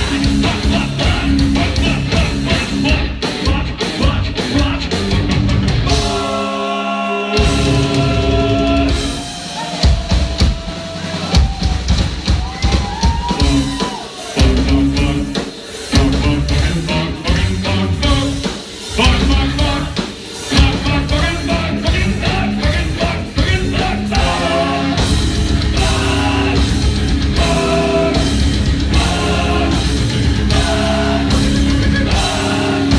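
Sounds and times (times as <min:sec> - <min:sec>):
live metal band playing: 0:00.0 - 0:32.9.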